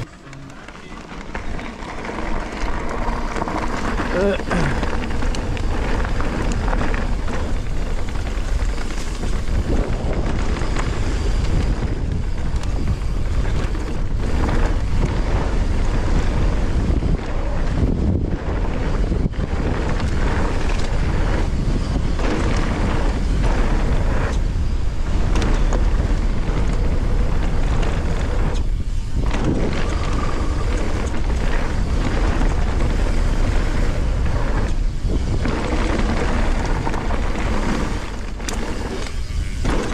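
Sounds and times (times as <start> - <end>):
bike tyres rolling on gravel: 0.0 - 39.9
wind noise on microphone: 0.0 - 39.9.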